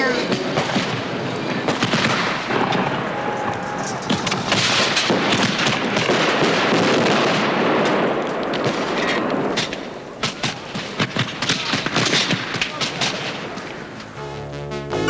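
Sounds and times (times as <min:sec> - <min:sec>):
fireworks bangs and crackling: 0:00.0 - 0:14.2.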